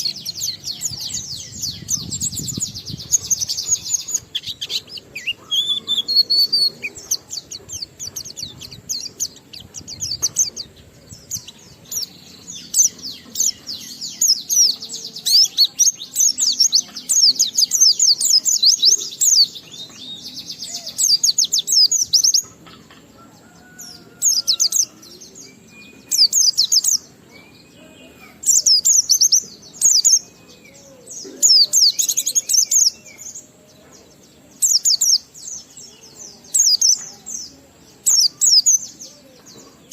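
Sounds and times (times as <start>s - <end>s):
bird singing fast twittering song: 0.0s - 39.9s.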